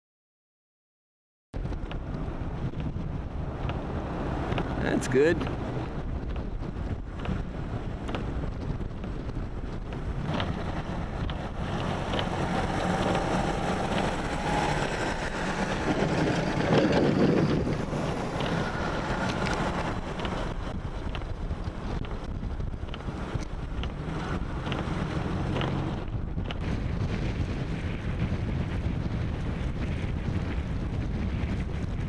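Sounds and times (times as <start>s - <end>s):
vehicle traffic rumble: 1.6s - 32.0s
wind buffeting microphone: 1.6s - 32.0s.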